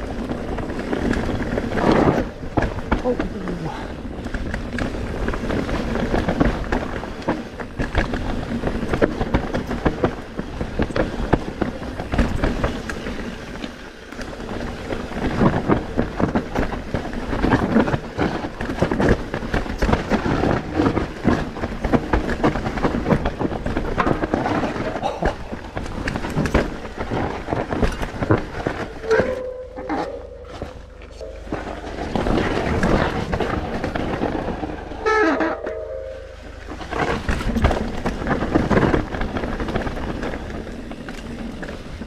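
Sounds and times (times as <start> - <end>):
bike rattling and knocking: 0.0 - 42.0
bike tyres on rough ground: 0.0 - 42.0.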